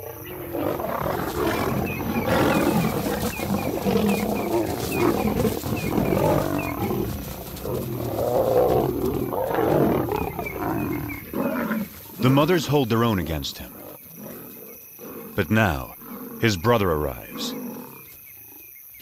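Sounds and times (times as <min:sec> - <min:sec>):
lions growling and snarling: 0:00.0 - 0:18.8.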